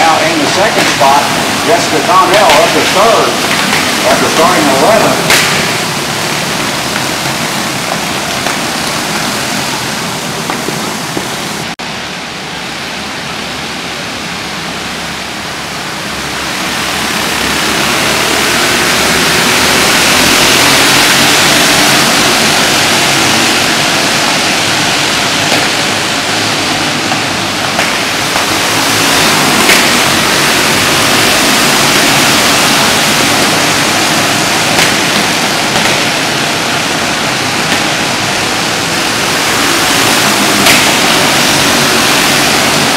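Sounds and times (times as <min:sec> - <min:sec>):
kart engines racing indoors: 0:00.0 - 0:11.7, 0:12.5 - 0:42.9.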